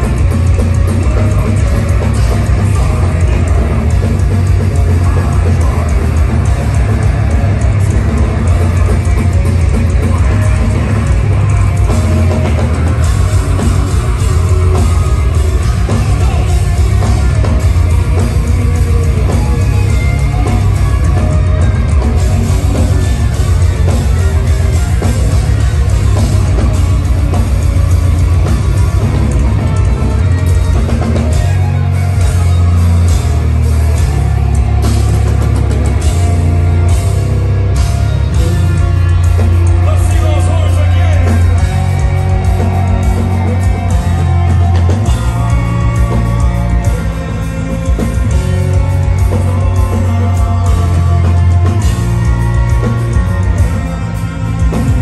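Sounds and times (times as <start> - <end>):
distorted guitars and bass: 0.0 - 55.0
drum kit: 0.0 - 55.0
metal band playing live: 0.0 - 55.0.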